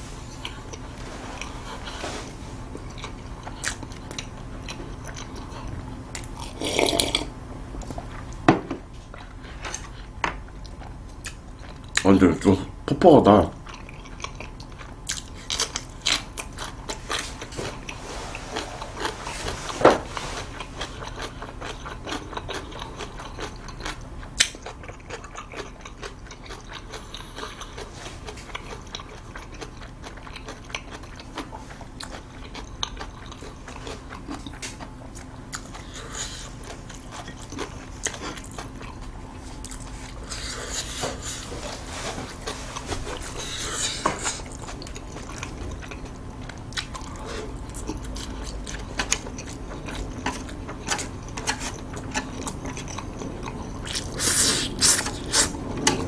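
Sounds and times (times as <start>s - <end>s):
crunchy chewing of pickled radish: 0.2s - 8.4s, 13.5s - 56.0s.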